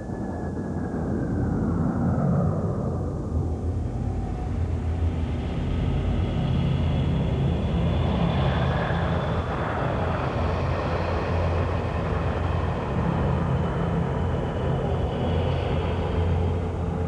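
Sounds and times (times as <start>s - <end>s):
spaceship engine rumbling drone: 0.0s - 17.0s.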